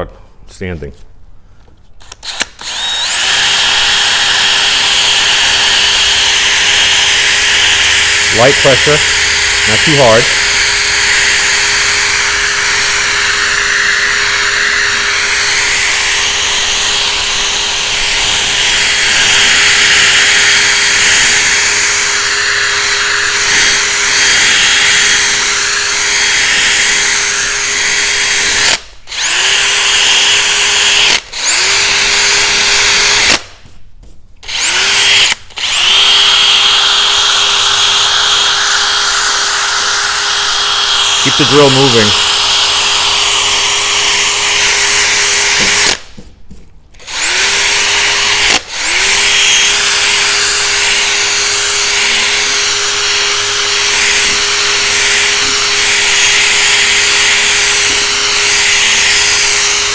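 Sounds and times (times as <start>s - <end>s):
drill motor whine: 2.0s - 33.4s, 34.4s - 46.0s, 47.0s - 59.9s.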